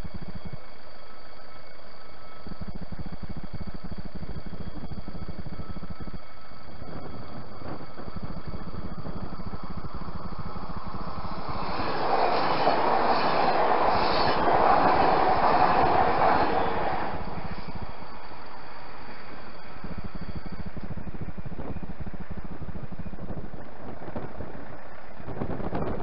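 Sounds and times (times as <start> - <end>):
steady low rumble: 0.0 - 26.0
train wheels rushing on rail: 0.0 - 26.0.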